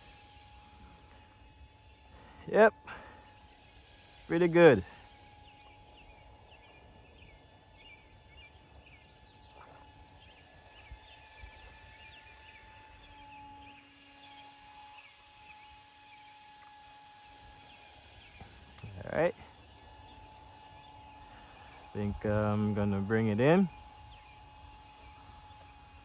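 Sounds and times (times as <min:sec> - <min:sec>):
distant model plane motor whine: 0:00.0 - 0:26.0
birds chirping: 0:00.6 - 0:26.0.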